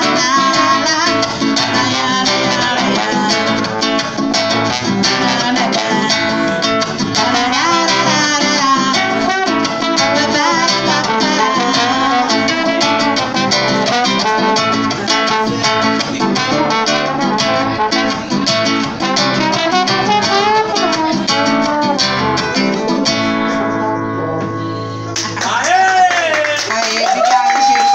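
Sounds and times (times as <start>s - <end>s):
slide trombone melody: 0.0s - 25.2s
strummed acoustic guitar: 0.0s - 25.4s.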